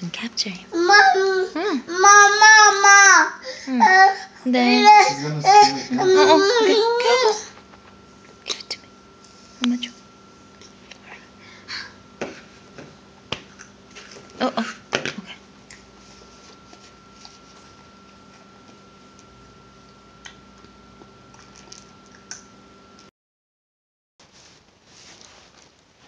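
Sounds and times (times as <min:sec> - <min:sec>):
faint steady hum: 0:00.0 - 0:23.1.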